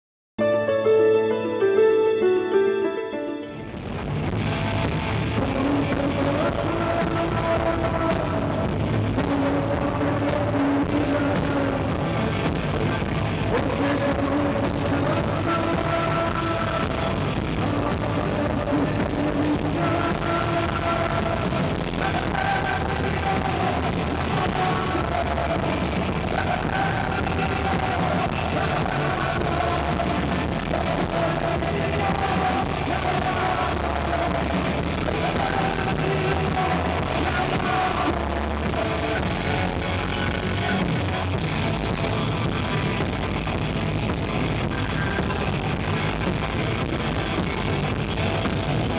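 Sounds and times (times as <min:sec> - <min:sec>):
electric guitars: 0:00.4 - 0:48.9
drums: 0:03.7 - 0:48.9
person singing into microphone: 0:05.2 - 0:48.9.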